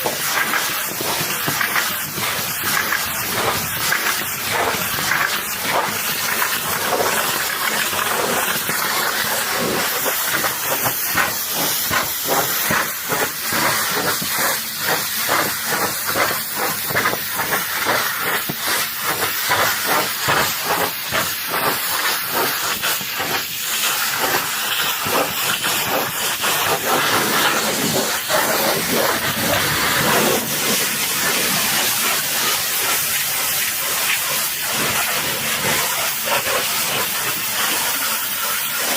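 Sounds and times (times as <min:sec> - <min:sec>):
pressure washer spraying water: 0:00.0 - 0:38.9.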